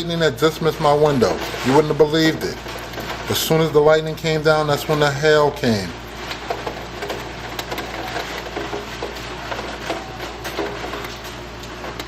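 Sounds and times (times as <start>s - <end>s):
hailstones ticking on glass: 0.0s - 12.0s.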